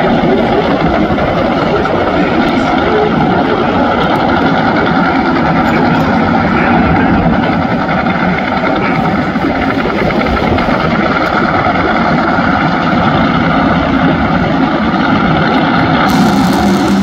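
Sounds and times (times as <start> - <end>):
drag racing engine rumbling: 0.0 - 17.0.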